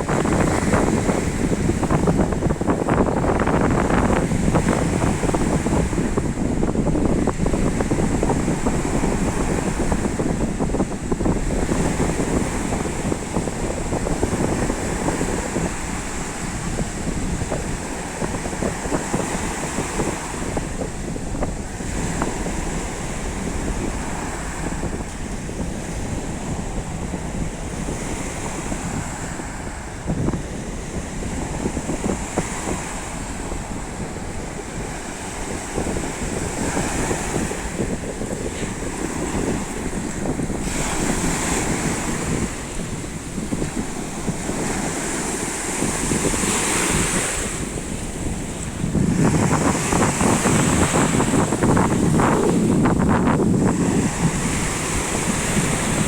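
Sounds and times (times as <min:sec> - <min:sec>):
waves washing on shore: 0:00.0 - 0:56.0
wind buffeting microphone: 0:00.0 - 0:56.0.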